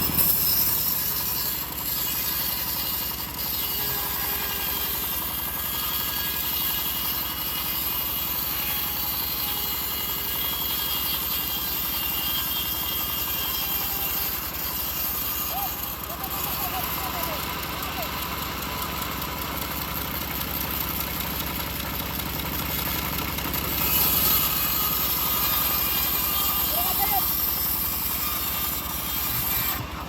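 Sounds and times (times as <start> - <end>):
bandsaw mill engine running: 0.0 - 30.0.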